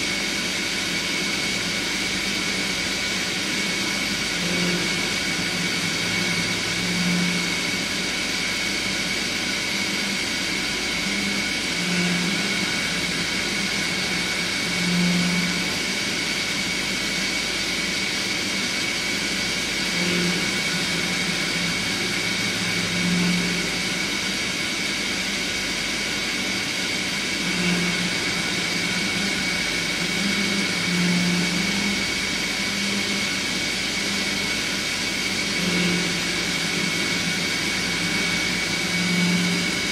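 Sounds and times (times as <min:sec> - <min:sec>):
high spindle whine: 0:00.0 - 0:39.9.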